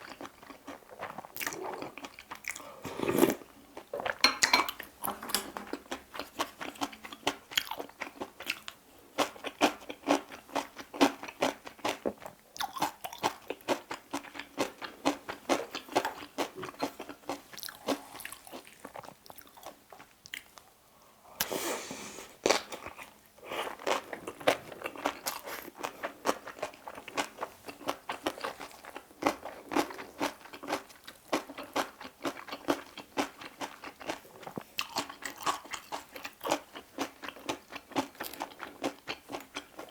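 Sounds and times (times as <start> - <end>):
close chewing with crunches: 0.0 - 4.2, 5.7 - 20.7, 22.5 - 39.9.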